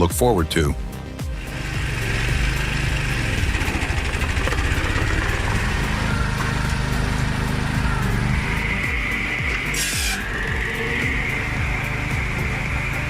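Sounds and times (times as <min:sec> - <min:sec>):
small engine running: 0:01.2 - 0:13.0.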